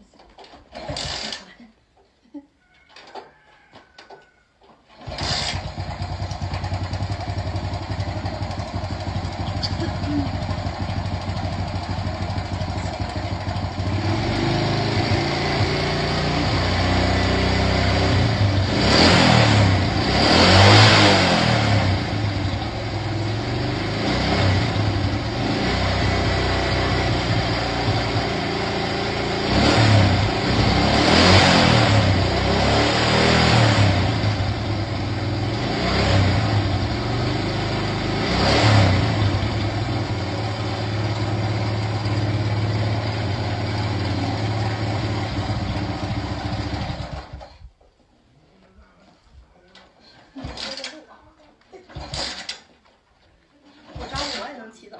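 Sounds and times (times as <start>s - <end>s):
small engine idling and revving: 0.8s - 1.5s, 4.9s - 47.7s, 51.9s - 52.6s, 53.8s - 54.6s.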